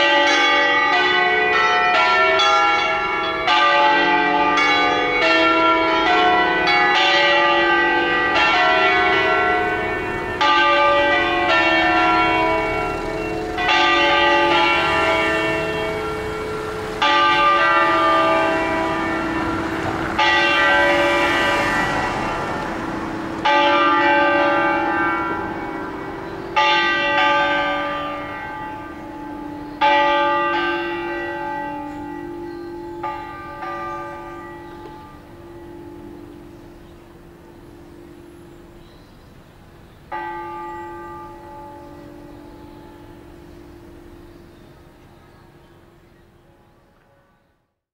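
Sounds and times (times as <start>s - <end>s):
church bells ringing: 0.0s - 47.8s.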